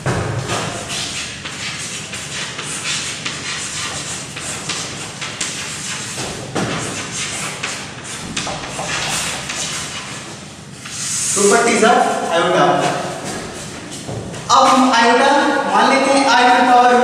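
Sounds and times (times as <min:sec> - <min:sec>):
chalk scratching on chalkboard: 0:00.5 - 0:15.2.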